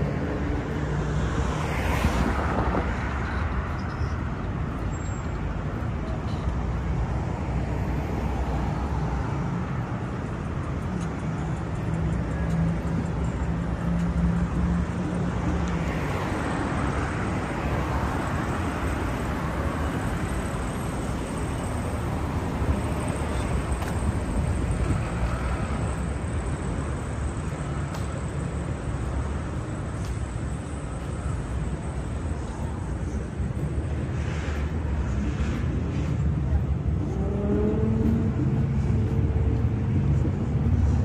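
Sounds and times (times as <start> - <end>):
cars passing on busy road: 0.0 - 41.0
street traffic rumble: 0.0 - 41.0.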